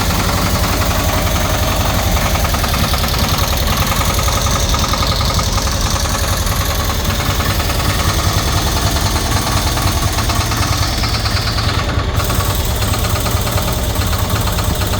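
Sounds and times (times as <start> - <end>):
engine idling with knocking: 0.0 - 14.9.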